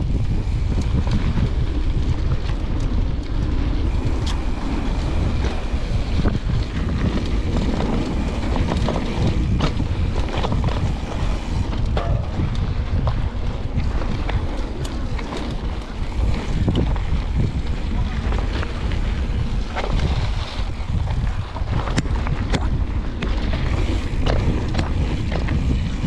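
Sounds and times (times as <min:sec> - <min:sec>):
bike clicks and rattles: 0:00.0 - 0:26.0
bike tyres rolling over dirt: 0:00.0 - 0:26.0
wind rushing over microphone: 0:00.0 - 0:26.0.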